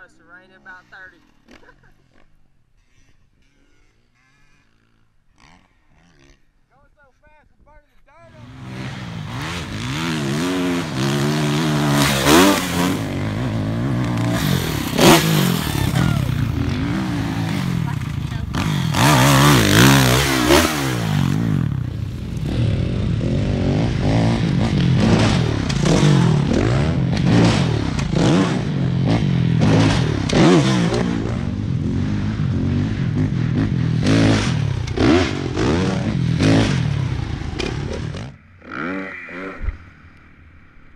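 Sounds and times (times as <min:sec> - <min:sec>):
motocross bike engines revving: 0:00.0 - 0:07.2, 0:08.3 - 0:40.9.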